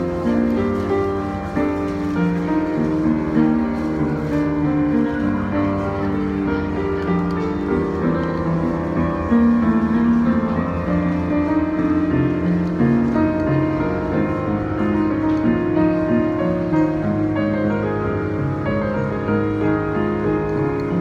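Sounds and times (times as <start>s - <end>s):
piano playing pop song: 0.0s - 21.0s.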